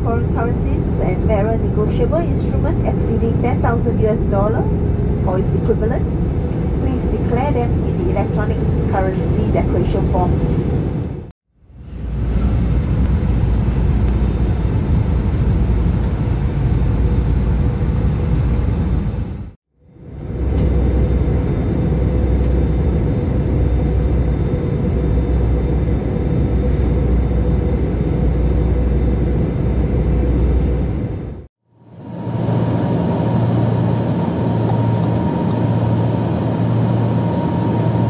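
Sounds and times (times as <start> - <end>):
aircraft cabin engine rumble: 0.0 - 38.0.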